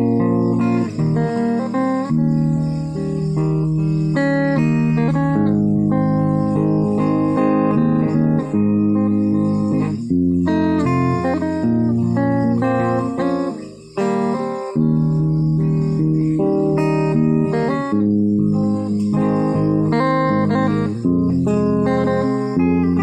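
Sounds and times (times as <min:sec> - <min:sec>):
fingerstyle guitar: 0:00.0 - 0:23.0.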